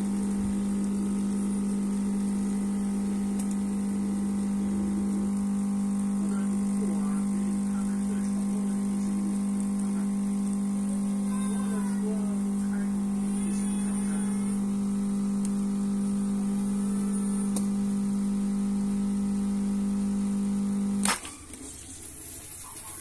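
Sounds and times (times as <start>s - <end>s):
espresso machine pump humming: 0.0s - 23.0s.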